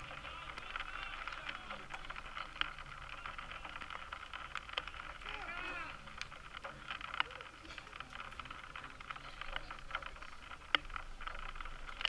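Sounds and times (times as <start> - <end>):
sharp clicks and knocks: 0.0 - 12.0.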